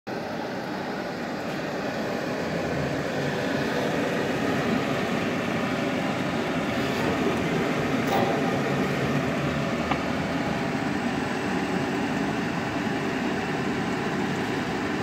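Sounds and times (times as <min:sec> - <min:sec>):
industrial machine rumbling hiss: 0:00.1 - 0:15.0.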